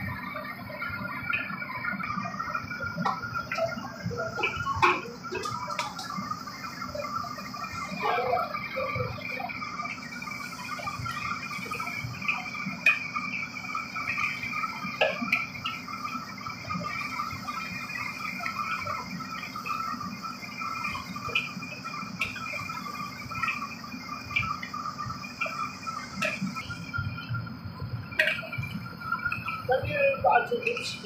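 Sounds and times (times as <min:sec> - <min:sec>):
food sizzling in a wok: 0:00.0 - 0:31.0.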